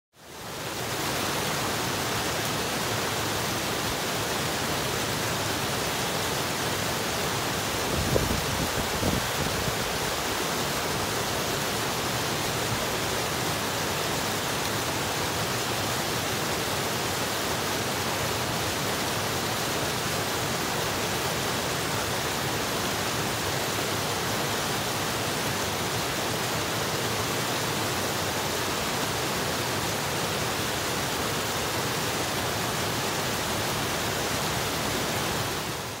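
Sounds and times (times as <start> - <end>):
water rushing over boulders: 0.2 - 36.0.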